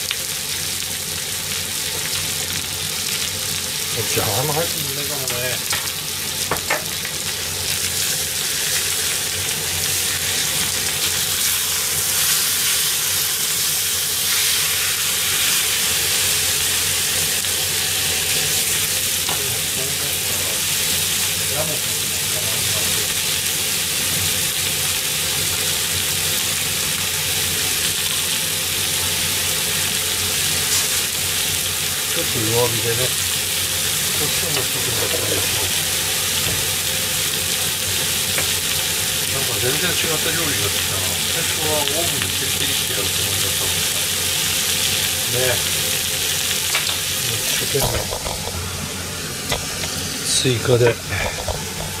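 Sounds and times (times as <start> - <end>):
chicken sizzling in a pan: 0.0 - 52.0.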